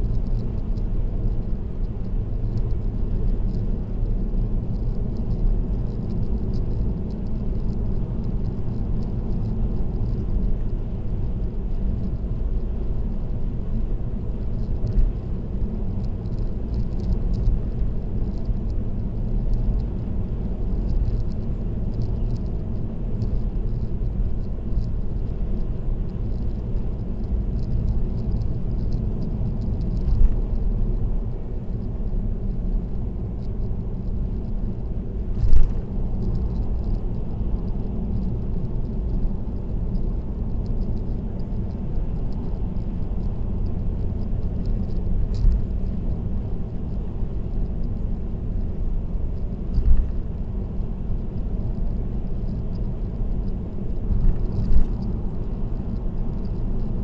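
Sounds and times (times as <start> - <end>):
road and tyre noise: 0.0 - 57.0.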